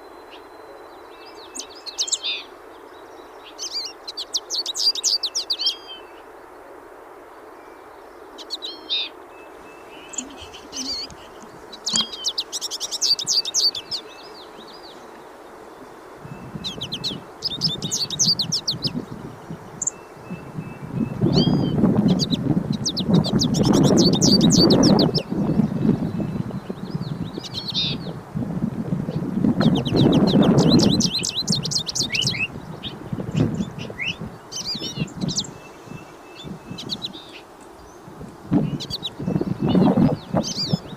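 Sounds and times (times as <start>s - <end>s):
birds twittering song: 0.0s - 6.7s, 7.3s - 28.2s, 29.0s - 40.9s
steady background hiss: 0.0s - 40.9s.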